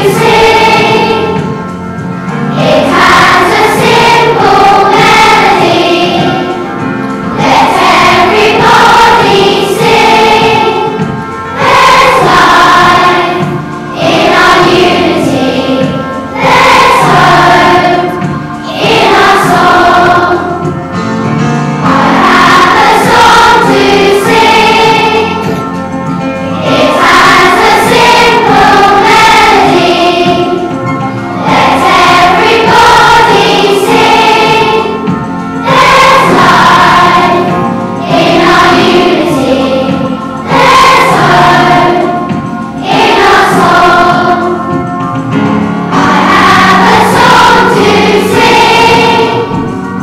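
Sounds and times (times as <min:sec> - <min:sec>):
children's choir singing: 0:00.0 - 0:50.0.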